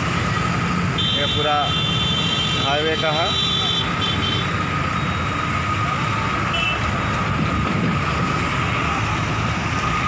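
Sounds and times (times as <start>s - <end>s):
highway traffic roar: 0.0s - 10.0s.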